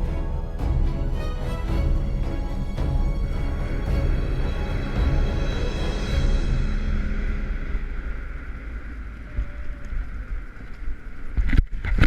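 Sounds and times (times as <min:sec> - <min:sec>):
soundtrack music: 0:00.0 - 0:09.8
steady low rumble: 0:00.0 - 0:11.7.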